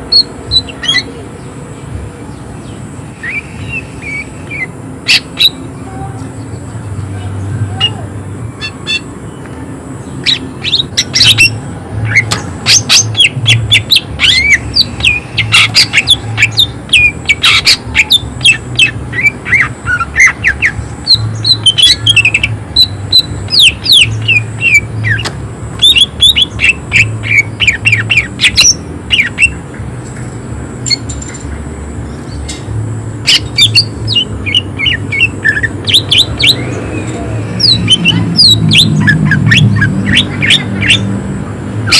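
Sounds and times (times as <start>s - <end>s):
bird chattering and whistling: 0.0s - 1.3s, 2.6s - 6.7s, 7.6s - 9.4s, 10.0s - 29.6s, 33.2s - 41.2s.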